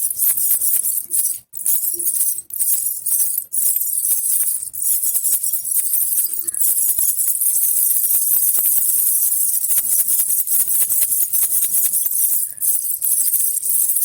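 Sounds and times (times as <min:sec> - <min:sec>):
baby rattle jingling: 0:00.0 - 0:14.0.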